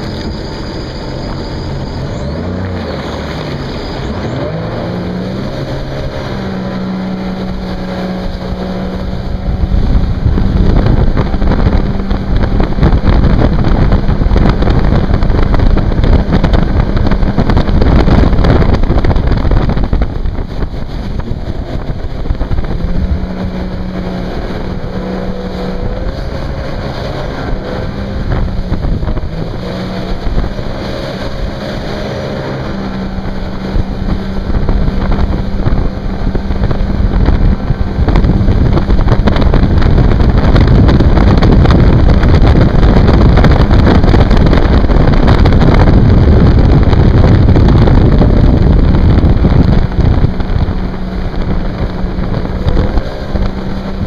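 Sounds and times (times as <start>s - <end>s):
boat engine drone: 0.0s - 54.0s
water spray and wind rushing: 0.0s - 54.0s.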